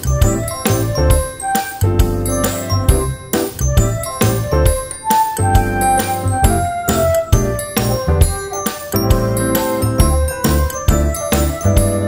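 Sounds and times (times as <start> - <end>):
background music with tinkling notes: 0.0 - 12.0.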